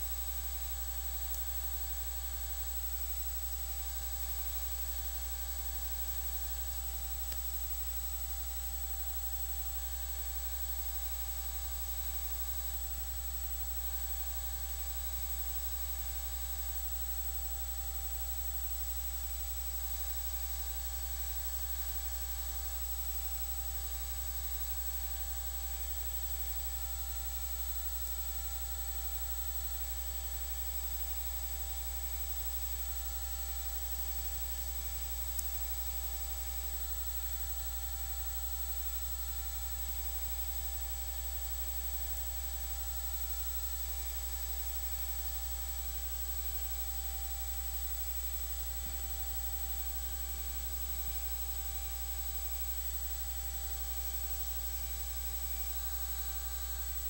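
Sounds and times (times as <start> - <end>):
electrical hum with hiss: 0.0 - 57.0
faint steady tones: 2.7 - 57.0.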